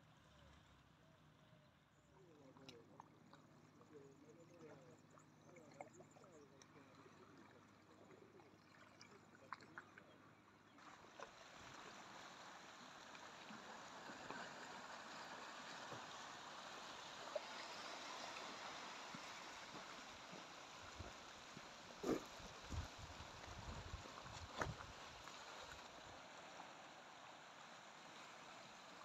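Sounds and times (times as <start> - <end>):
small waves lapping on pebbles: 2.4 - 29.0.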